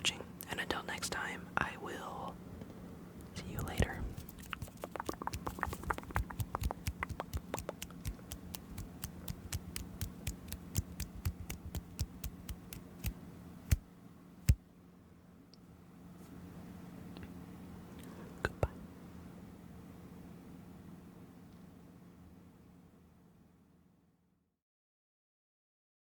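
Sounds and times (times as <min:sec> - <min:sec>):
low steady hum: 0:00.0 - 0:24.2.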